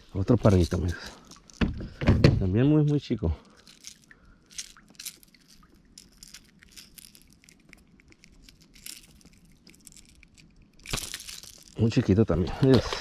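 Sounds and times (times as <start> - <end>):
fishing lure rattling: 0.3 - 2.0, 2.8 - 13.0.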